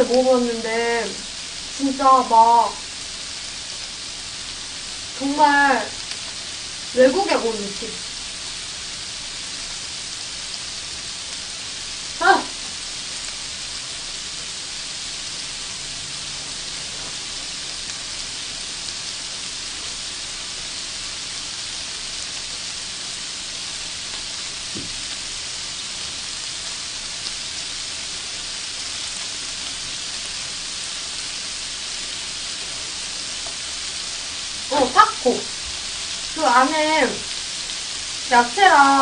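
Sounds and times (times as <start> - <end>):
food sizzling on a grill plate: 0.0 - 39.0.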